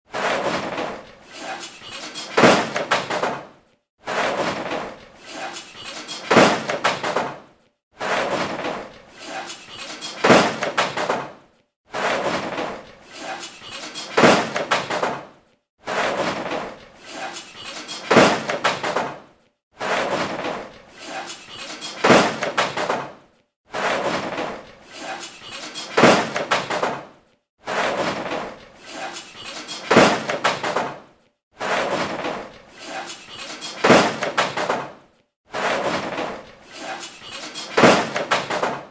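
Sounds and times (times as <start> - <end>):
garbage clattering and banging: 0.1 - 3.5, 4.1 - 7.4, 8.0 - 11.4, 12.0 - 15.3, 15.9 - 19.2, 19.8 - 23.2, 23.8 - 27.1, 27.7 - 31.0, 31.6 - 35.0, 35.6 - 38.9.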